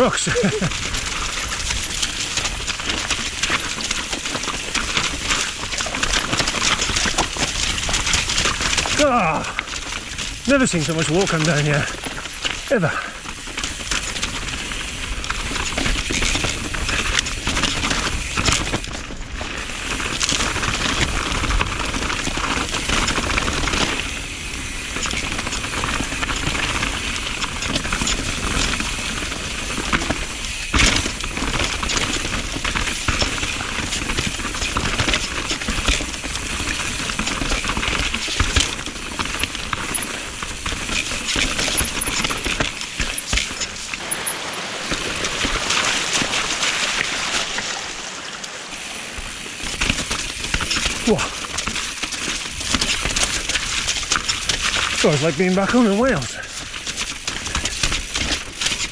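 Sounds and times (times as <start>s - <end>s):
bike rattling over roots and rocks: 0.0s - 58.9s
bike tyres rushing on trail: 0.0s - 58.9s.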